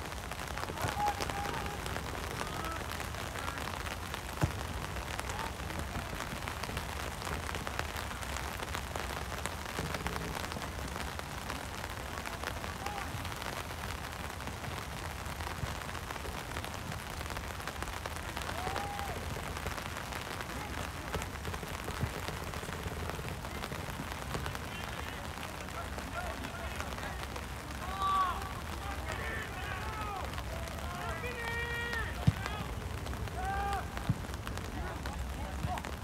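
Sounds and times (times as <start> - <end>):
raindrops ticking near microphone: 0.0 - 36.0
steady rain falling: 0.0 - 36.0.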